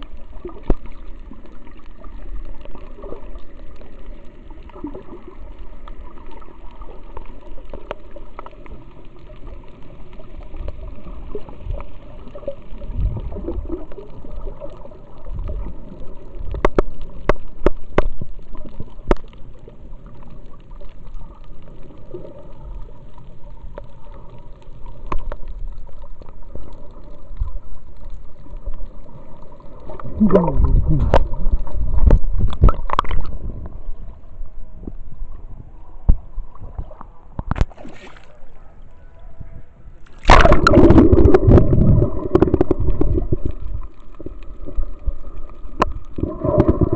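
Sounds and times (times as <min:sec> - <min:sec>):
water bubbling and splashing: 0:00.0 - 0:34.3, 0:36.1 - 0:38.6, 0:40.0 - 0:46.9
muffled underwater rumble: 0:00.0 - 0:46.9.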